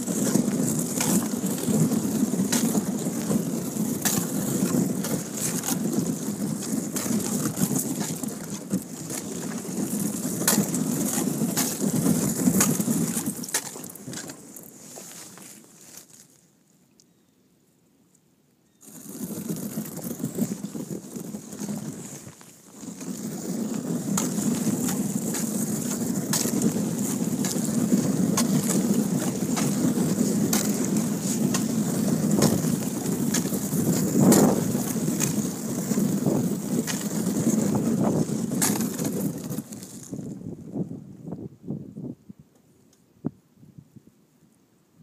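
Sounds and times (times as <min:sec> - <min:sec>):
ice crunching against kayak hull: 0:00.0 - 0:16.4, 0:18.8 - 0:40.5.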